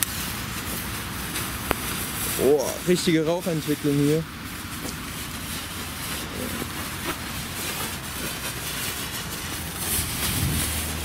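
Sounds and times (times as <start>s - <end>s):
faint firework crackles: 0.0s - 11.0s
firework hissing spray of sparks: 0.0s - 11.0s.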